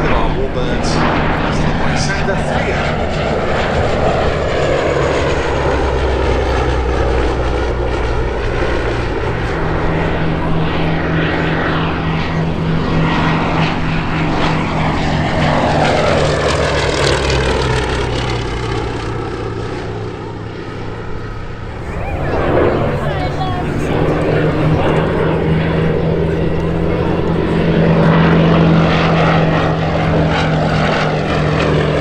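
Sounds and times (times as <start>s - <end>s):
propeller aircraft flying by: 0.0s - 32.0s.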